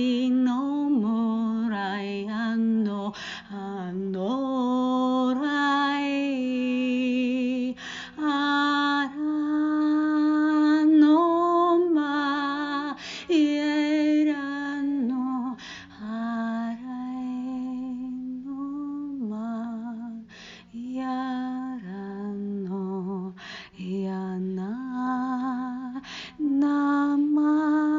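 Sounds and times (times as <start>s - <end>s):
woman singing wordless notes: 0.0s - 27.9s.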